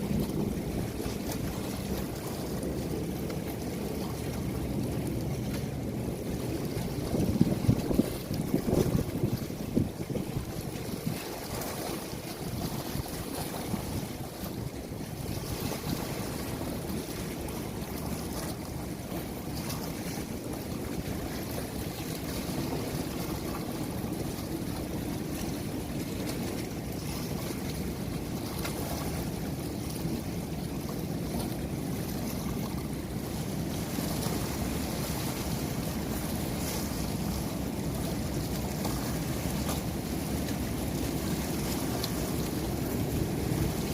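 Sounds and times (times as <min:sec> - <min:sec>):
rushing water: 0:00.0 - 0:43.9
wind buffeting microphone: 0:00.0 - 0:43.9.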